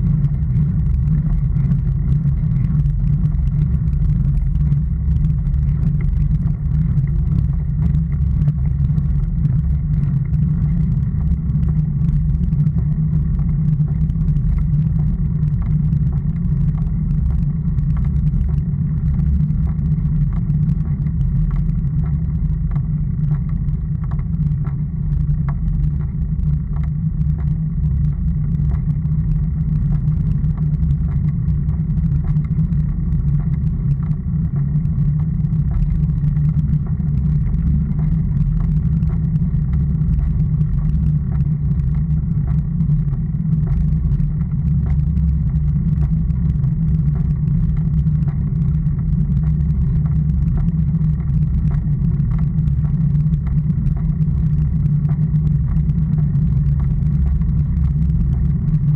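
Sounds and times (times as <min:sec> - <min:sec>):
faint ticks from road surface: 0:00.0 - 0:58.9
low rumble of wind: 0:00.0 - 0:58.9.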